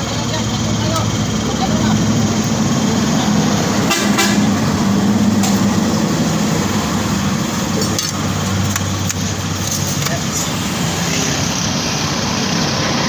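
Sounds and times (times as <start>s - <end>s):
pressure washer running: 0.0s - 13.0s.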